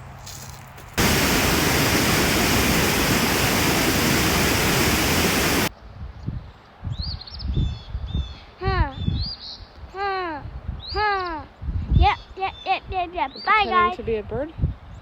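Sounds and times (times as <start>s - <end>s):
wind on microphone: 1.0s - 9.4s, 10.4s - 13.1s, 14.0s - 15.0s.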